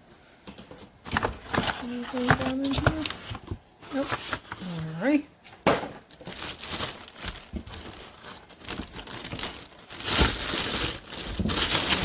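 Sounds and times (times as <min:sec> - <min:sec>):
packaging crinkling and rustling: 0:00.6 - 0:05.1, 0:06.0 - 0:12.0.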